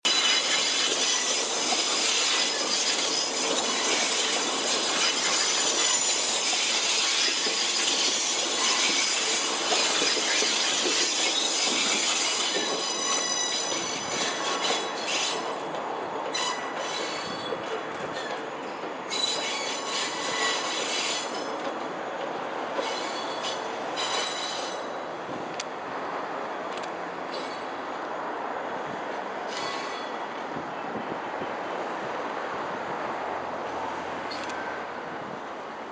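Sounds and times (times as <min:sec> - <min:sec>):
train wheels squealing on rails: 0:00.1 - 0:25.3, 0:27.3 - 0:32.1, 0:33.6 - 0:35.0.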